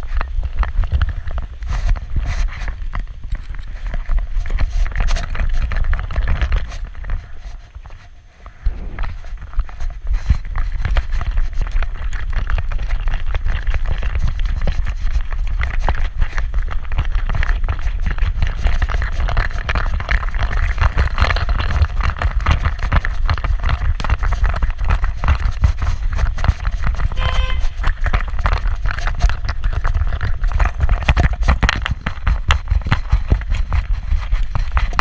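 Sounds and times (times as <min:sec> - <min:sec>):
handling and wind rumble: 0:00.0 - 0:35.0.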